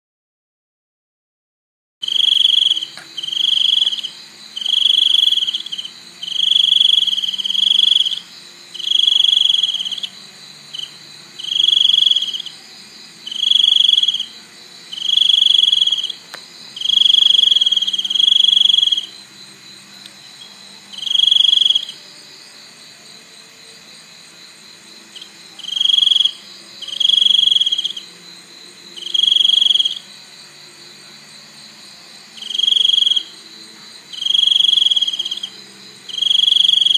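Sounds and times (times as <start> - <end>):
cricket chirping in high trills: 2.0 - 36.9
high-pitched insect drone: 2.0 - 36.9.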